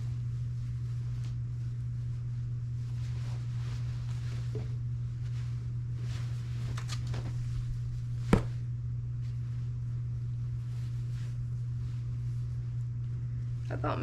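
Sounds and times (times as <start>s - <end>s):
fabric rustling: 0.0s - 13.6s
steady low hum: 0.0s - 14.0s.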